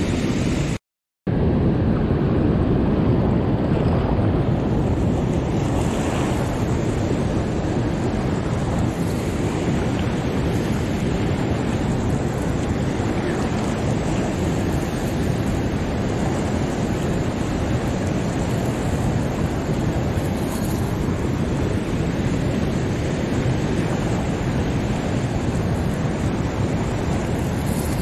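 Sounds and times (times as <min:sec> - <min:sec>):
wind noise on microphone: 0:00.0 - 0:28.0
water rushing down spillway: 0:02.4 - 0:28.0.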